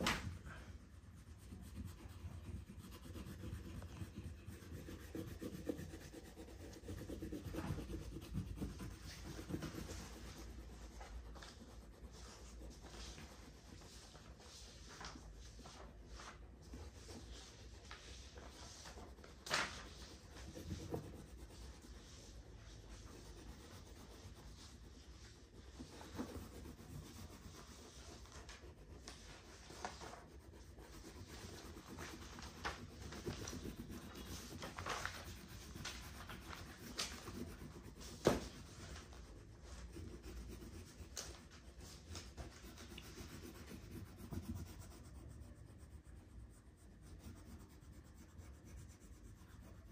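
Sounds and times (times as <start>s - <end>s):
oil pastel scratching on paper: 0.0s - 49.9s.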